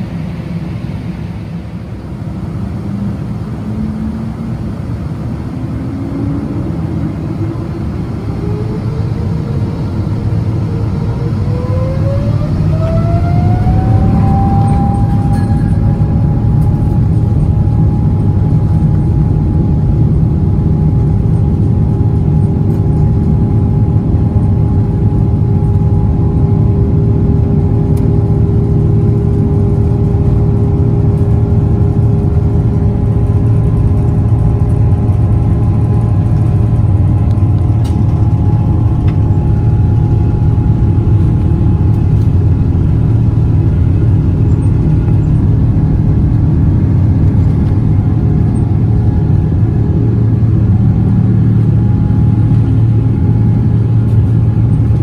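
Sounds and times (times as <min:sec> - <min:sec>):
jet engine rumble: 0:00.0 - 0:55.0
jet engine whine rising: 0:00.0 - 0:55.0.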